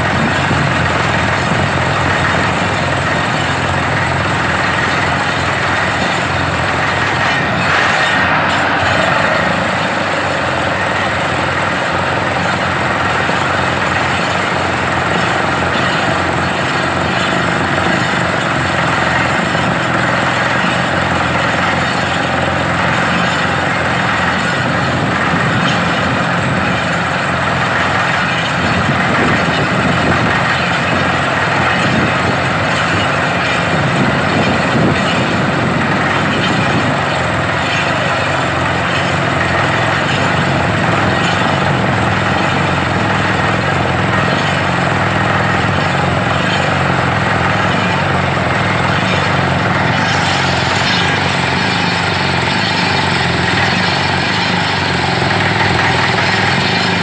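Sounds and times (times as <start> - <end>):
drilling rig running: 0.0 - 57.0.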